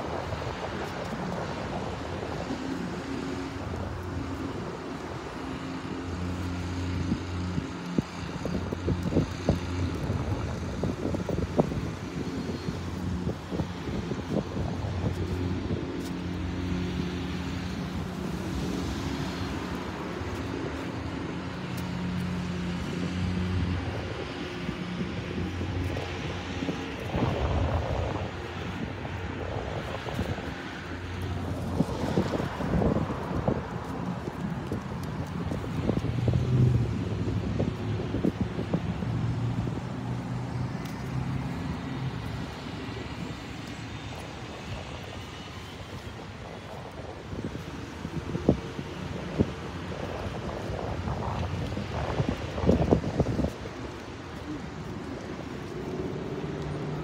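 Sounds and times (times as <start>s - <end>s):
road traffic with engine hum: 0.0s - 57.0s.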